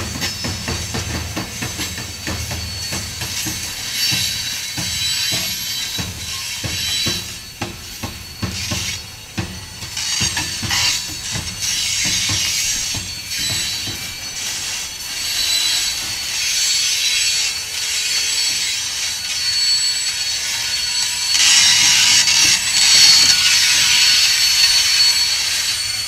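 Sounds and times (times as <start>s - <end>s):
high wheel squeal: 0.0s - 26.0s
rushing hiss of rolling train: 0.0s - 26.0s
train wheels clacking over rails: 0.0s - 26.0s.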